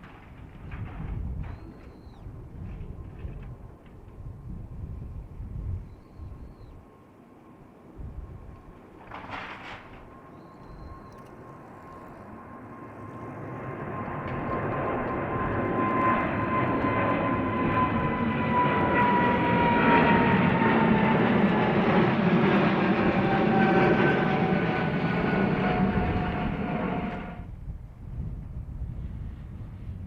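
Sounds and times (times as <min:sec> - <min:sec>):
jet airliner taking off: 0:00.1 - 0:30.0.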